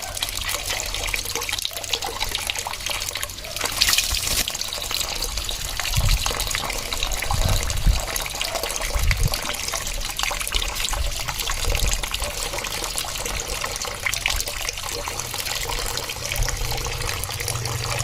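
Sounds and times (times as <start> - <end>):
running water splashing: 0.0 - 18.0.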